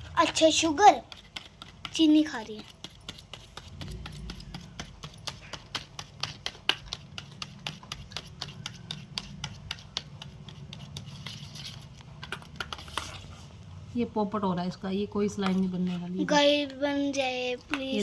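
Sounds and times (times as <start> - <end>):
slime being stirred in bowl: 0.0 - 18.0.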